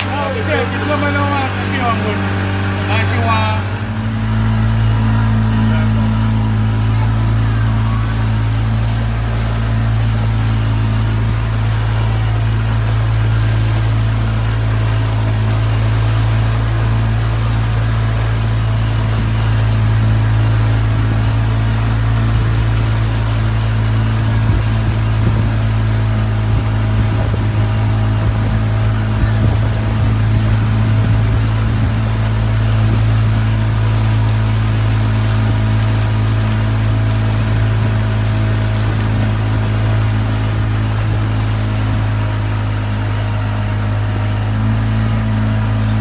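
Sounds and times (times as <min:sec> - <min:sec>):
motorboat engine humming: 0:00.0 - 0:46.0.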